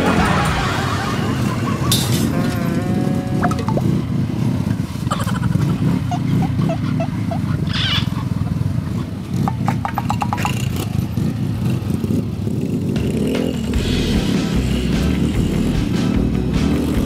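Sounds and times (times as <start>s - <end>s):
small motorcycle engines running: 0.0s - 17.0s.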